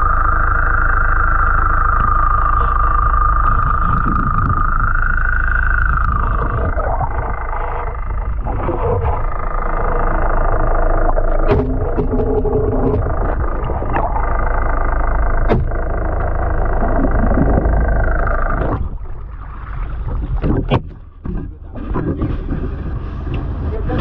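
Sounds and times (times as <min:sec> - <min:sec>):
boat engine underwater rumble: 0:00.0 - 0:24.0.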